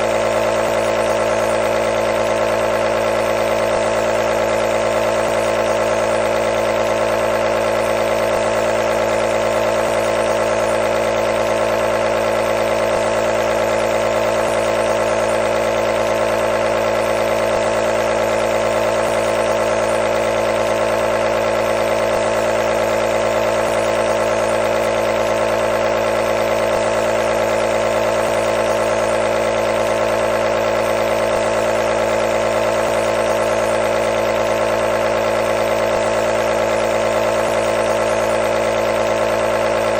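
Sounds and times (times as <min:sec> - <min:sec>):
nebulizer compressor humming: 0:00.0 - 0:39.9.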